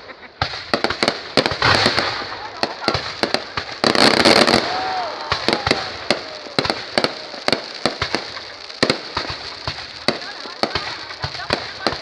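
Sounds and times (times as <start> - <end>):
fireworks cracking and banging: 0.0 - 12.0
fireworks crackling: 0.0 - 12.0.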